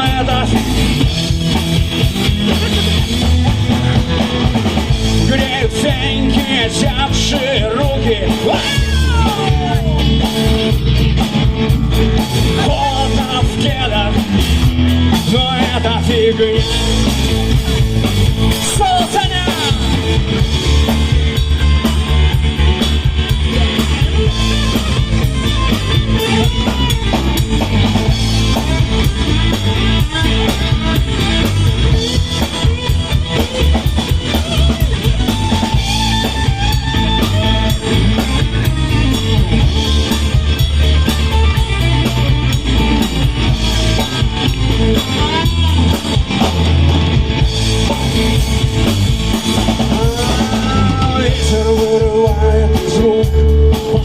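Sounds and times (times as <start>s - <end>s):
rock music with guitar and drums: 0.0s - 54.0s.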